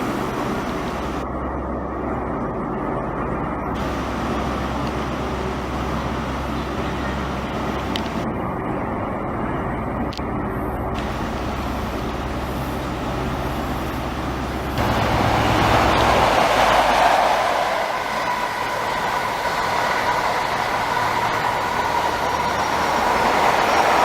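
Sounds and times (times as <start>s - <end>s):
steady low rumble: 0.0s - 24.0s
train rolling along platform: 0.0s - 24.0s.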